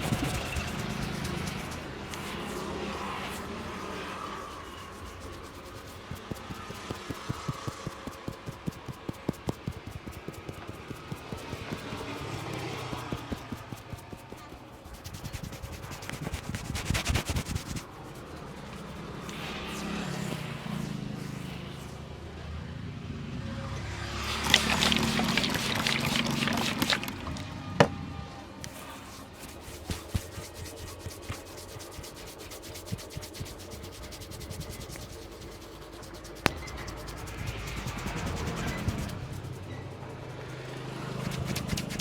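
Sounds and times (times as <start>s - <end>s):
hands scrubbing hair and scalp: 0.0s - 21.8s, 24.2s - 27.4s, 28.7s - 42.0s.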